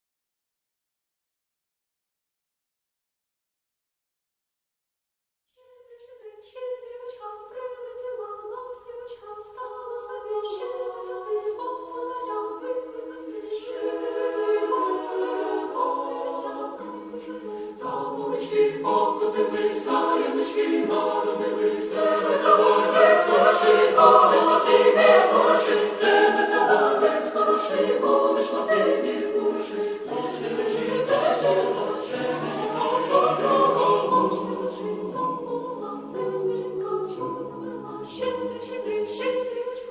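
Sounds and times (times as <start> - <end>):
choir singing a cappella: 5.9 - 39.9.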